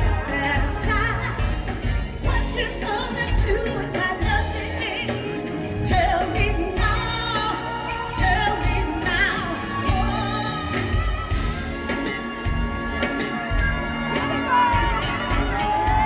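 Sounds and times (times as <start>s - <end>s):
drums: 0.0s - 16.0s
live band playing: 0.0s - 16.0s
woman singing: 0.0s - 16.0s.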